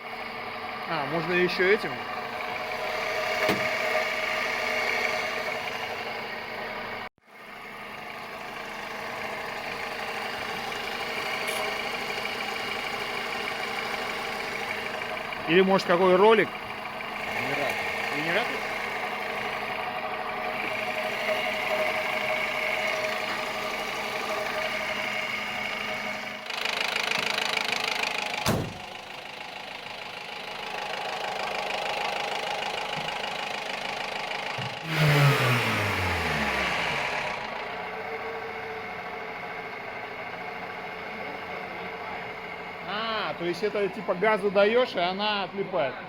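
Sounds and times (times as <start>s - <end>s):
car engine idling: 0.0s - 46.0s
engine rattle: 0.0s - 46.0s
engine revving: 0.3s - 7.1s, 8.1s - 29.1s, 30.2s - 45.7s.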